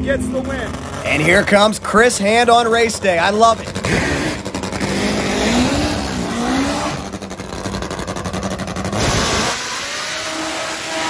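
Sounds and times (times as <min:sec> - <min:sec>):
drag motorcycle engine revving: 0:00.0 - 0:11.0.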